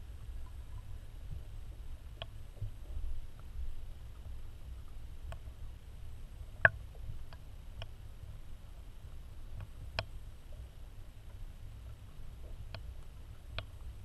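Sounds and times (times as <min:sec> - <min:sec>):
muffled underwater rumble: 0:00.0 - 0:14.0.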